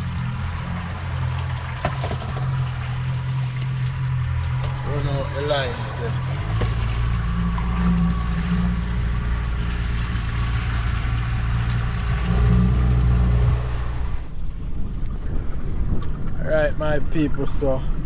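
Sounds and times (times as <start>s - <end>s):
boat motor running: 0.0s - 18.0s
water noise: 0.0s - 18.0s
wind: 0.0s - 18.0s.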